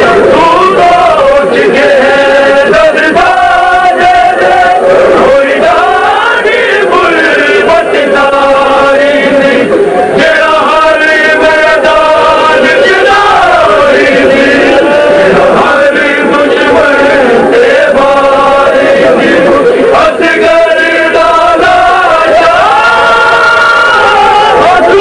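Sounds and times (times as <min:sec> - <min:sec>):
men chanting a lament: 0:00.0 - 0:25.0.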